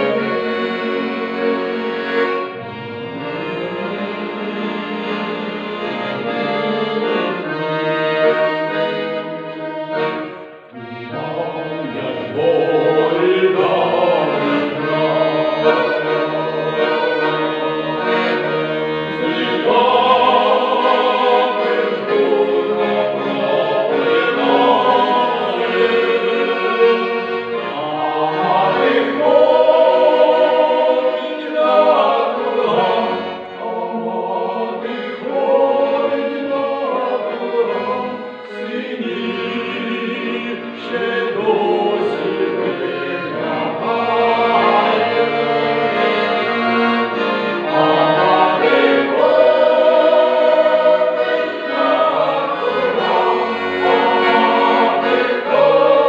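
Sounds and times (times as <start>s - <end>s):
accordion: 0.0s - 56.0s
mixed choir singing folk song: 0.0s - 56.0s.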